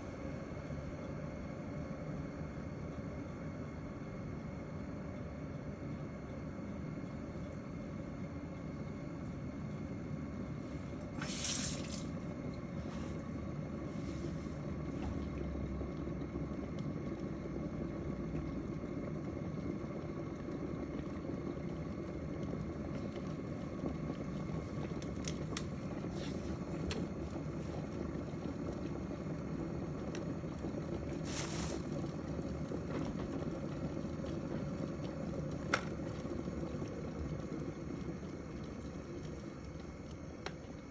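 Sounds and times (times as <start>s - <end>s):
kettle heating water hiss: 0.0s - 40.9s.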